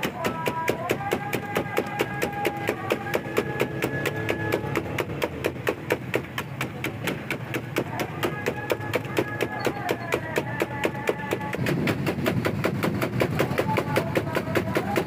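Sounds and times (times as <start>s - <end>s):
rapid knife chopping: 0.0s - 15.0s.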